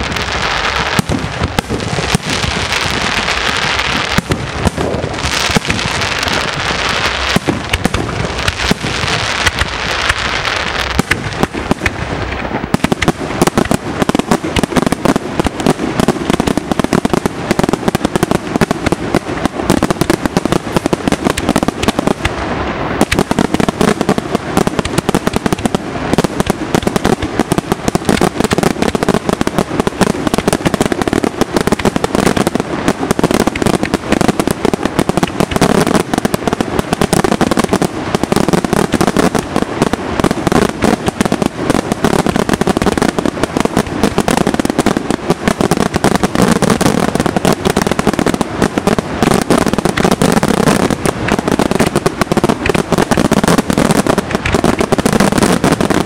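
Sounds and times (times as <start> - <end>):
fireworks bursts and crackling: 0.0 - 56.0.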